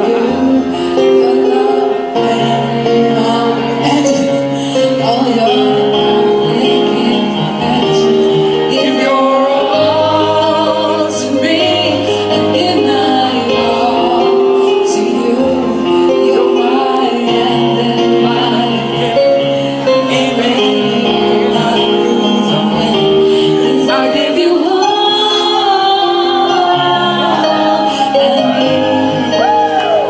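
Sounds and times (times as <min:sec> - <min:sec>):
instrumental backing track: 0:00.0 - 0:30.0
woman singing into microphone: 0:00.0 - 0:30.0.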